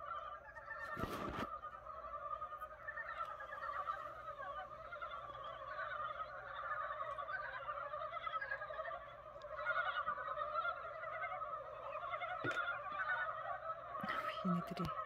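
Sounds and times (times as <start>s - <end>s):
chorus of frogs croaking: 0.0s - 15.0s.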